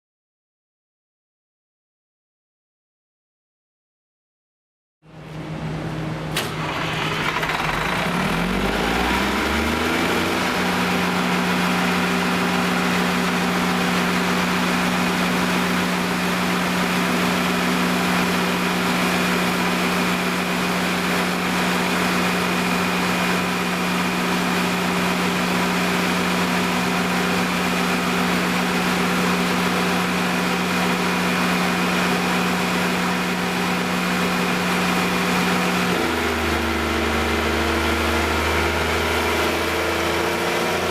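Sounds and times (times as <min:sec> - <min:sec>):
diesel generator engine running: 0:05.1 - 0:40.9.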